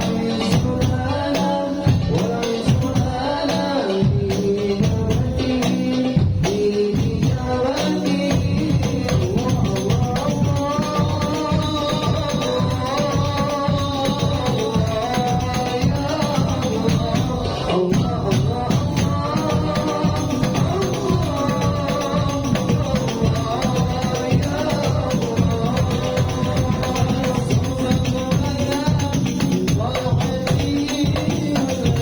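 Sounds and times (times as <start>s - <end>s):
frame drums with jingles: 0.0s - 32.0s.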